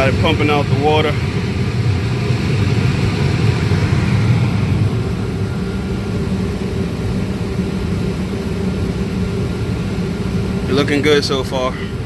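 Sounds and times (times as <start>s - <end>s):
mechanical drone of hvac equipment: 0.0s - 12.0s.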